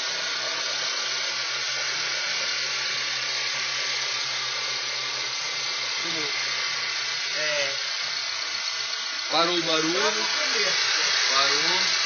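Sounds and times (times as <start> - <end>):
car engine hissing whir: 0.0 - 12.0.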